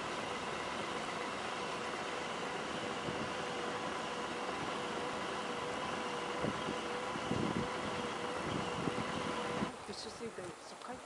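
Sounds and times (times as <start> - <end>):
siren steady tone: 0.0 - 9.7
traffic noise: 0.0 - 11.0
wind: 0.0 - 11.0.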